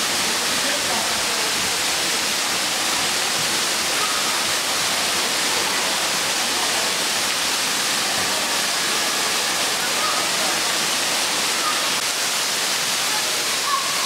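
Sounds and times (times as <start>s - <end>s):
water spraying and splashing: 0.0s - 14.0s.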